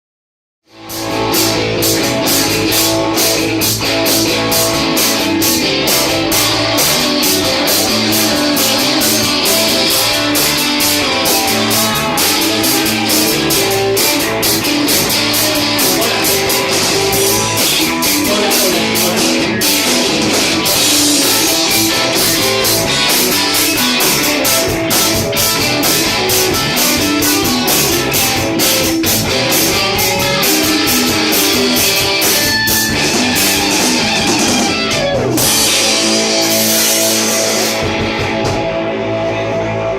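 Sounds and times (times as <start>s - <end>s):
rock band playing live: 0.7s - 39.9s.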